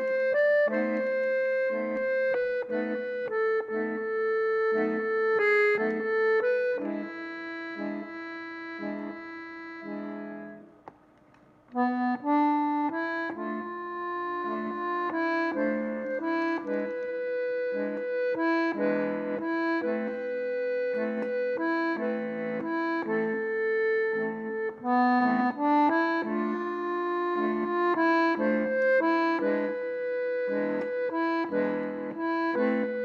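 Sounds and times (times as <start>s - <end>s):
accordion music: 0.0s - 33.0s.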